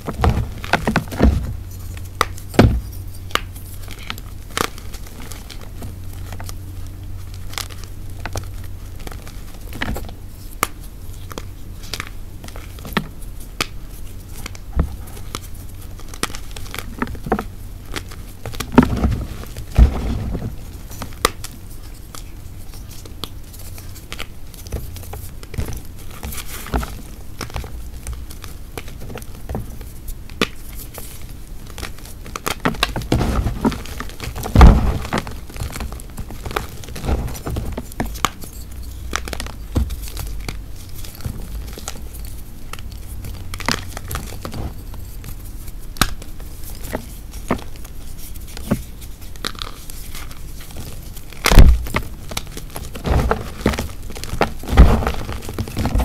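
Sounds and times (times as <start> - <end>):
chalk crushing and crackling: 0.0 - 56.0.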